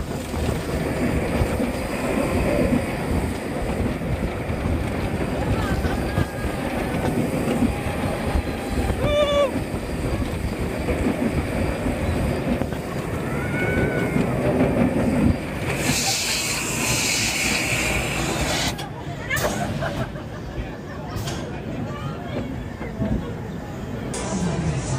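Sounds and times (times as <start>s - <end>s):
amusement ride rumble: 0.0s - 24.9s.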